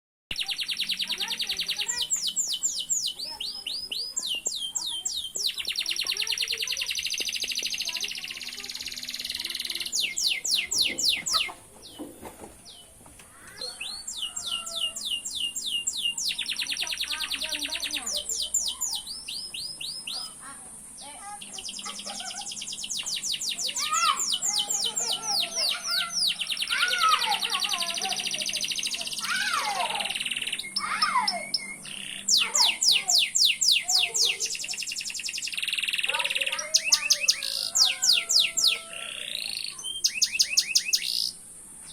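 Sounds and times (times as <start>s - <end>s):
canary singing trills: 0.3s - 12.0s, 13.5s - 41.9s.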